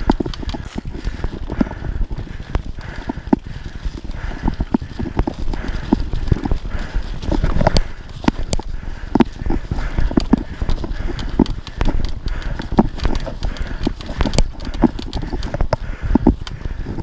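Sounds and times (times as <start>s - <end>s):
bike tyres crunching through leaves: 0.0s - 16.8s
bike knocking and rattling: 0.0s - 17.0s
steady low rumble: 0.0s - 17.0s.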